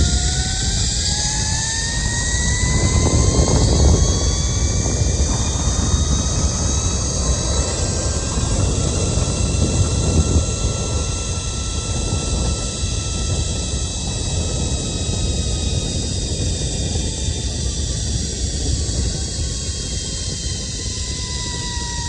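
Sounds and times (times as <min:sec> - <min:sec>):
engine running with low rumble: 0:00.0 - 0:22.0
rising whine: 0:00.0 - 0:22.0.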